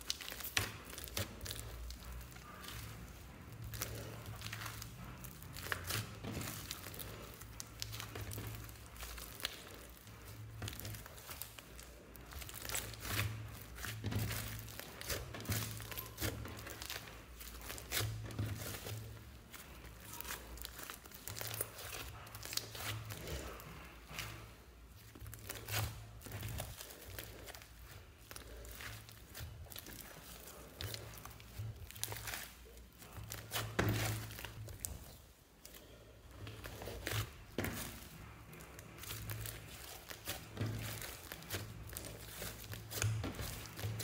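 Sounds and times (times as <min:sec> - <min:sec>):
slime crackling and popping: 0:00.0 - 0:44.0.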